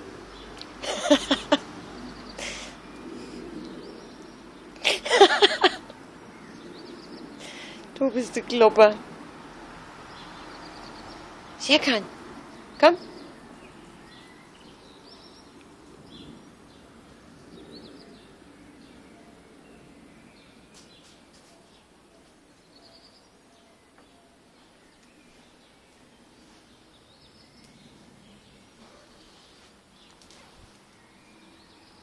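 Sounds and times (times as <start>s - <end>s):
faint outdoor background noise: 0.0s - 32.0s.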